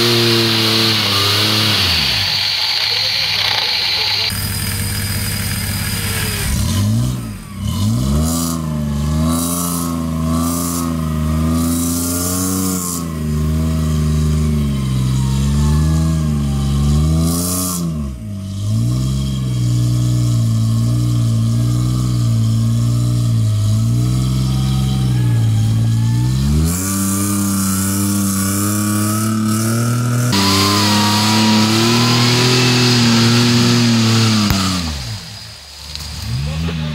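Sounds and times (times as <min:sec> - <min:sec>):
engine revving hard: 0:00.0 - 0:36.9.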